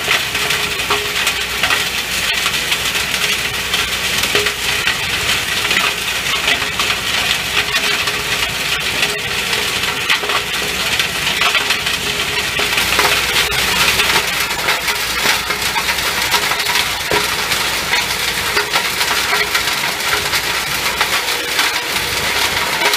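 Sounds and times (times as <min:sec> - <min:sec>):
machinery humming: 0:00.0 - 0:22.9
rock crackling and crunching: 0:00.0 - 0:22.9.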